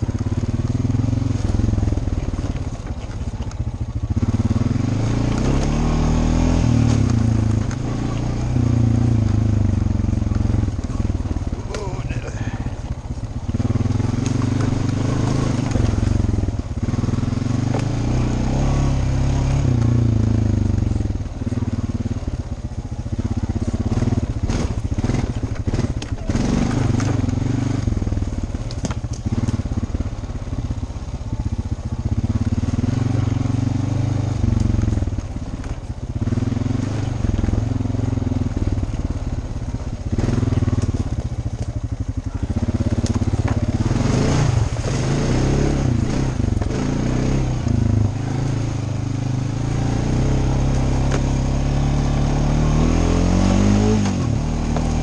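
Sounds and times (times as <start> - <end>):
rattling and knocking over bumps: 0.0 - 48.6, 49.5 - 52.2
atv engine revving: 0.0 - 55.0.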